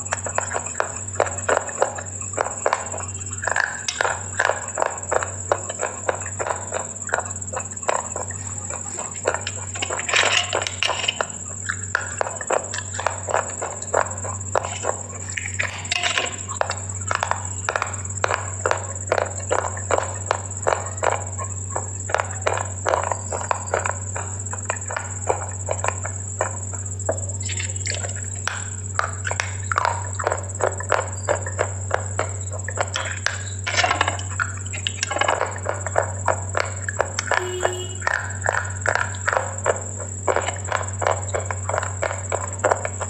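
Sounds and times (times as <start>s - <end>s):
crunchy chewing: 0.0s - 43.0s
faint high whine: 0.0s - 43.0s
low electrical hum: 0.0s - 43.0s.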